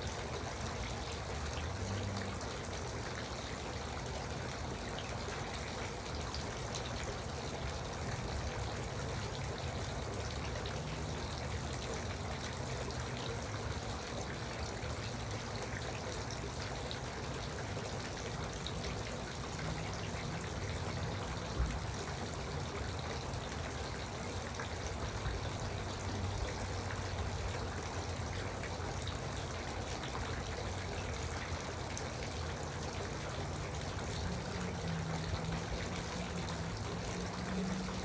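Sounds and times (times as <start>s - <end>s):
fountain water trickling: 0.0s - 38.0s.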